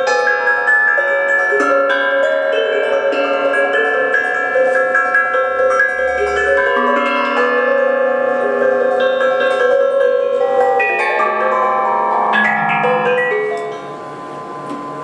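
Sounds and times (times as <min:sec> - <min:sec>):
mallets on tuned metal pots: 0:00.0 - 0:15.0.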